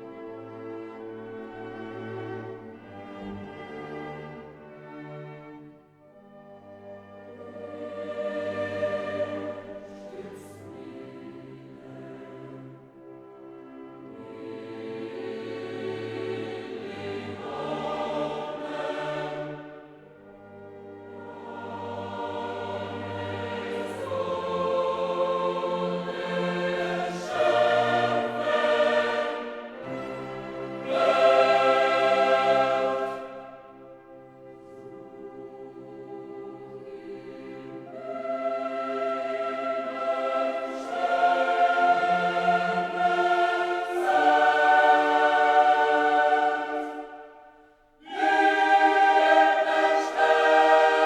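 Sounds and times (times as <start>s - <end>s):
choir singing: 0.0s - 51.0s.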